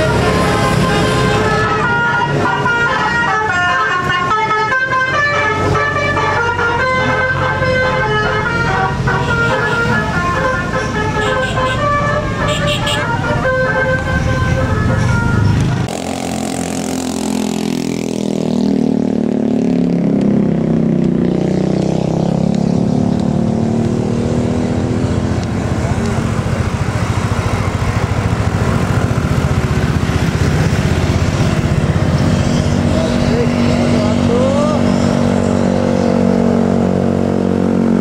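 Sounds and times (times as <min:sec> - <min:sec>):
bus diesel engine under load: 0:00.0 - 0:38.0.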